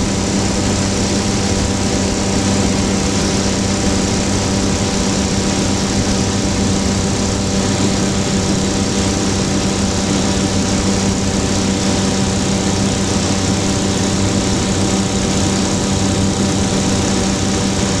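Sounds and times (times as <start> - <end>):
aircraft engine and propeller drone: 0.0 - 18.0.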